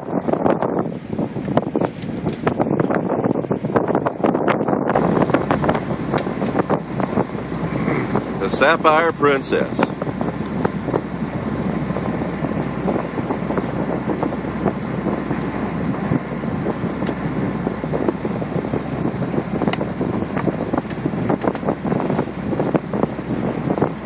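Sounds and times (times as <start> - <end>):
boat engine running: 0.0 - 24.0
wind buffeting microphone: 0.0 - 24.0.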